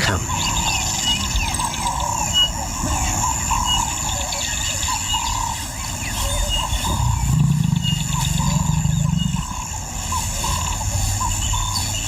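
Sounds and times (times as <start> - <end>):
high insect drone: 0.0 - 12.0
wavering calls: 0.0 - 12.0.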